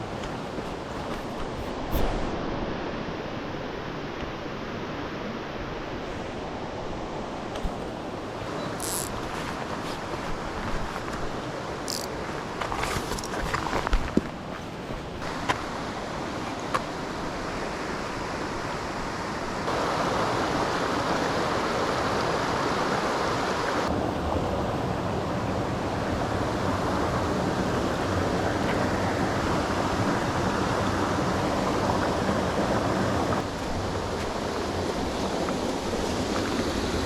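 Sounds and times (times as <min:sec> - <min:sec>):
torrent water rushing: 0:00.0 - 0:37.0.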